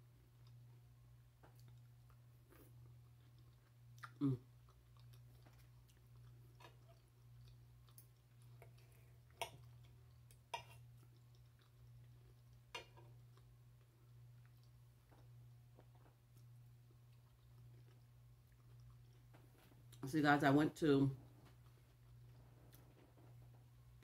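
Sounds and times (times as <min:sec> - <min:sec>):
low steady hum: 0:00.0 - 0:24.0
person chewing food: 0:00.2 - 0:20.0, 0:21.2 - 0:24.0.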